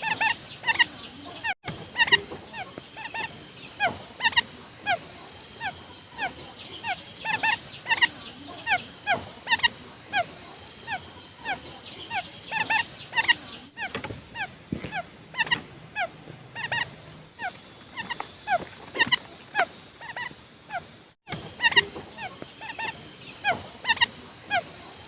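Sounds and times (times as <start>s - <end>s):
quail calling: 0.0s - 25.0s.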